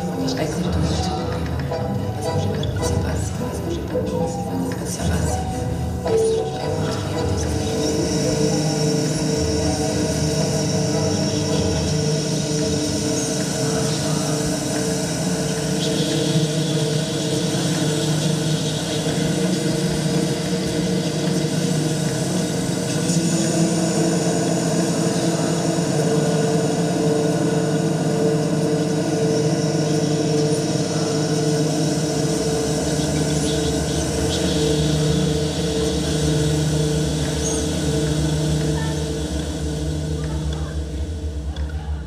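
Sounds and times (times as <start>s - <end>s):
drone of low tones: 0.0s - 42.0s.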